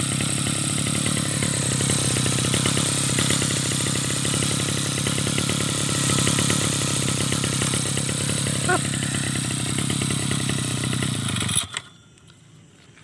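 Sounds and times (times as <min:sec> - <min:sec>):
brush cutter engine idling: 0:00.0 - 0:12.6.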